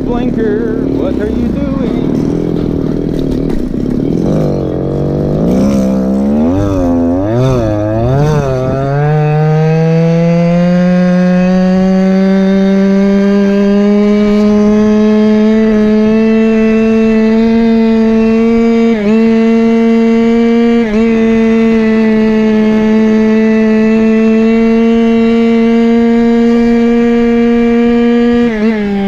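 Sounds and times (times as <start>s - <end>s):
scooter two-stroke engine running: 0.0s - 29.0s.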